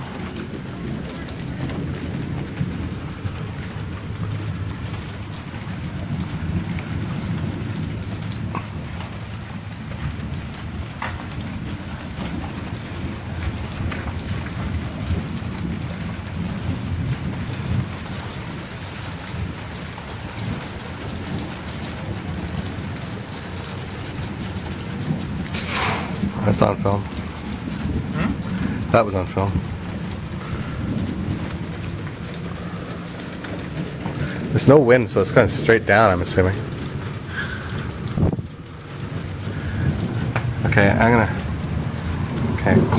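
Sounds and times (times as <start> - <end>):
rain falling steadily: 0.0 - 42.9.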